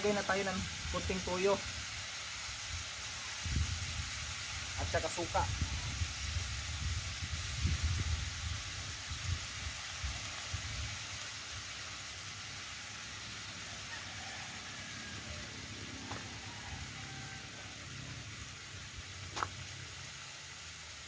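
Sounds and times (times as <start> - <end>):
meat sizzling in a wok: 0.0 - 21.0.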